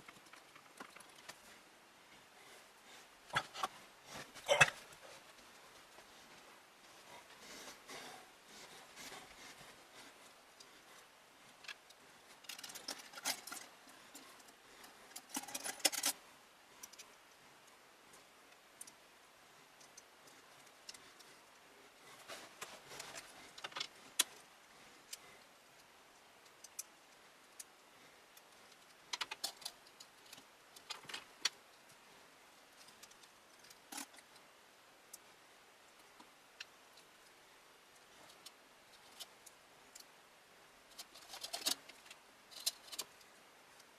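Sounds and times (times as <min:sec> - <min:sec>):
small hard parts clicking and rattling: 0:00.0 - 0:01.6, 0:08.6 - 0:34.5, 0:35.1 - 0:40.2, 0:40.8 - 0:43.9.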